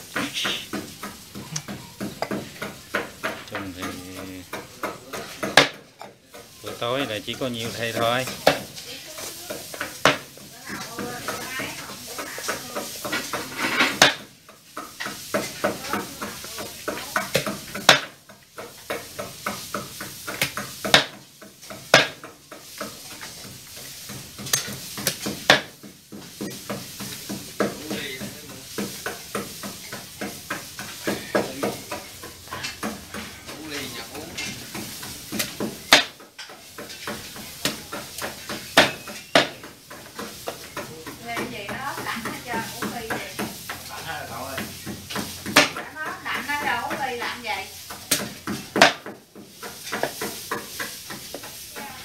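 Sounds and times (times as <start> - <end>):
knife chopping on wooden board: 0.1 - 6.5, 7.9 - 10.3, 12.4 - 33.3, 34.7 - 43.8, 47.9 - 51.5.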